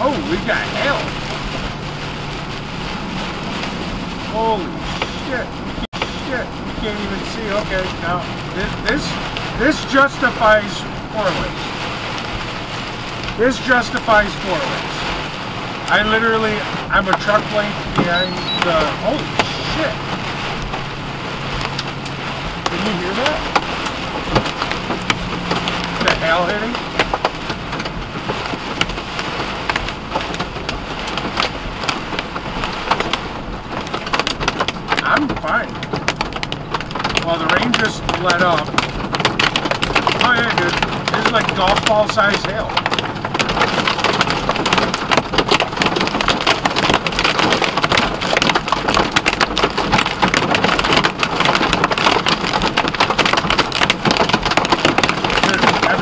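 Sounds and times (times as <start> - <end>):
hailstones striking: 0.0 - 56.0
heavy rain on vehicle roof: 0.0 - 56.0.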